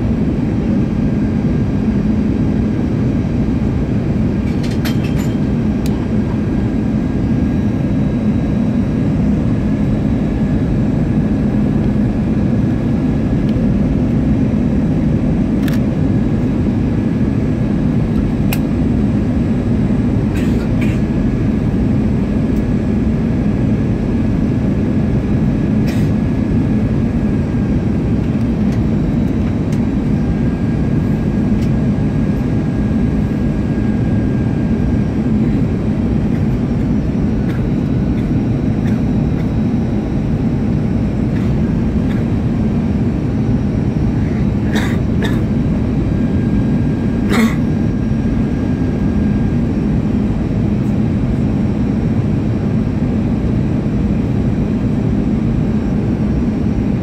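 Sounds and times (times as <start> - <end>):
jet engines humming: 0.0 - 57.0
thin steady whine: 0.0 - 57.0.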